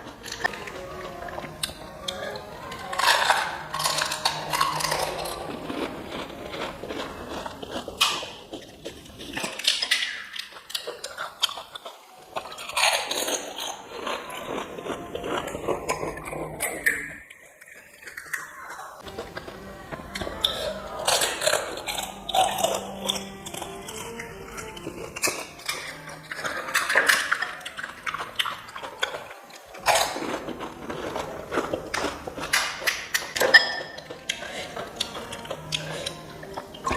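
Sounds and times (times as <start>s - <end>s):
crunching and chewing crisp food: 0.0s - 36.9s.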